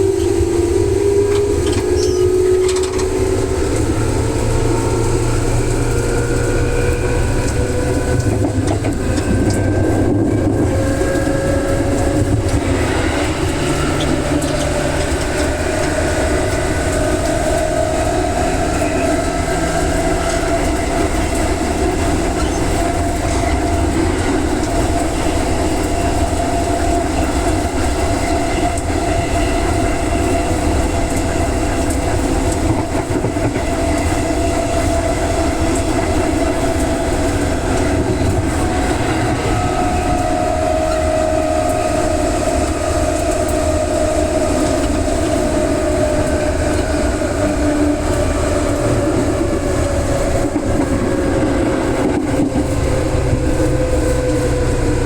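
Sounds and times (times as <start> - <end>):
train traction motors whining: 0.0 - 55.0
wheels rumbling on rail: 0.0 - 55.0.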